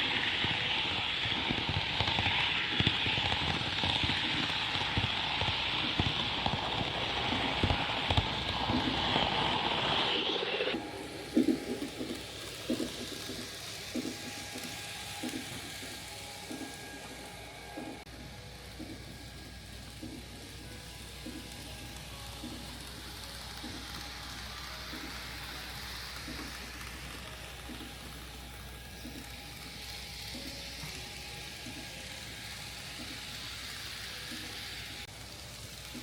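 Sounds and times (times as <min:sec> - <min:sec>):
model train running on track: 0:00.0 - 0:36.0.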